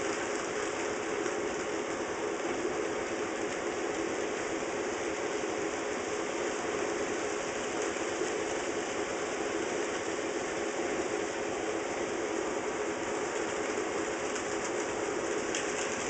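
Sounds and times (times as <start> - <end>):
wheels rolling on rails: 0.0 - 4.9, 7.6 - 16.0.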